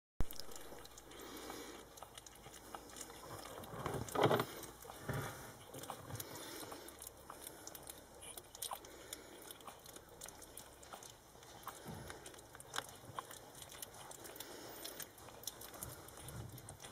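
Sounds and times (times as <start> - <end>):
puppies licking and smacking: 0.2 - 16.9.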